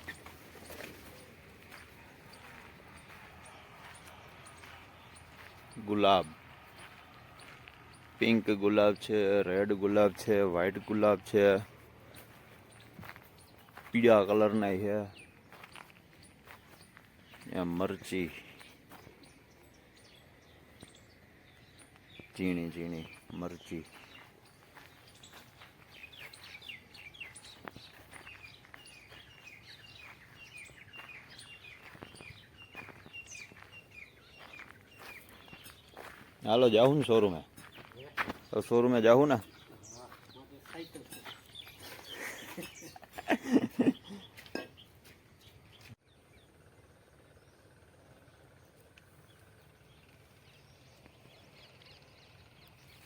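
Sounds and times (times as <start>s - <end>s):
outdoor background noise: 0.0s - 53.0s
small birds chirping: 0.0s - 53.0s.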